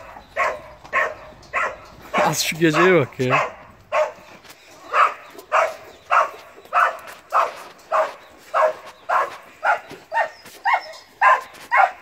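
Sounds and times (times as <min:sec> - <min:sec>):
dog barking: 0:00.0 - 0:04.3, 0:04.9 - 0:12.0.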